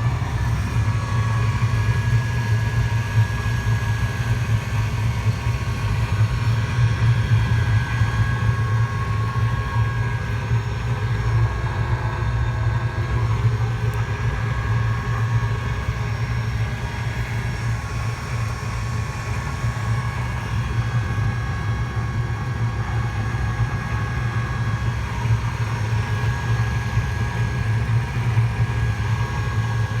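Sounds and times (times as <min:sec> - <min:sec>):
heater deep hum: 0:00.0 - 0:30.0.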